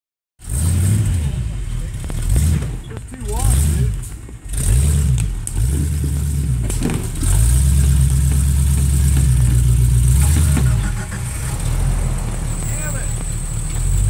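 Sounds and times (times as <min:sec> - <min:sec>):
buggy engine revving: 0:00.4 - 0:14.0.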